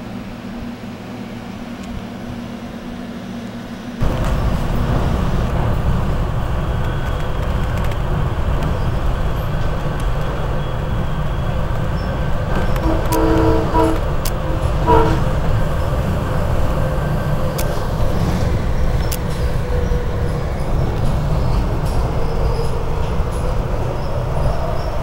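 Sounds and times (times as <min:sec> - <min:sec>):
electric railcars passing with hum: 0:00.0 - 0:25.0
train interior rumble: 0:00.0 - 0:25.0.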